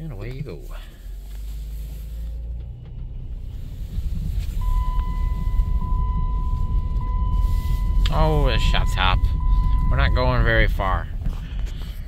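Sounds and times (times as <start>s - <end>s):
van engine rumbling: 0.0s - 12.0s.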